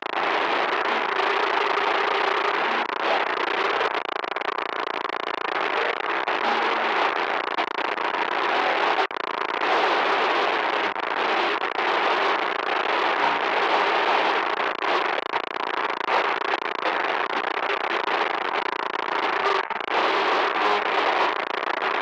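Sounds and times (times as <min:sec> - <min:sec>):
loud static hiss: 0:00.0 - 0:22.0.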